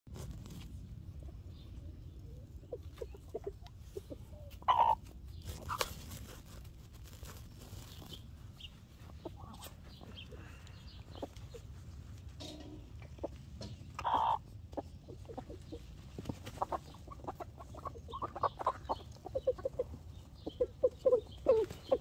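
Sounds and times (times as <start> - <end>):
chickens clucking: 1.0 - 6.5, 7.4 - 22.0.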